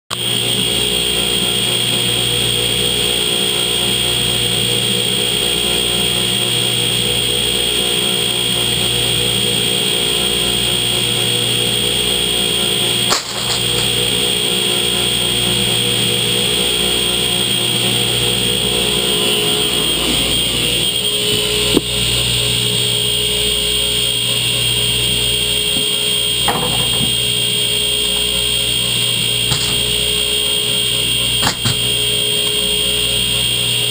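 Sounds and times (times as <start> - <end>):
workshop machinery droning: 0.1 - 33.9.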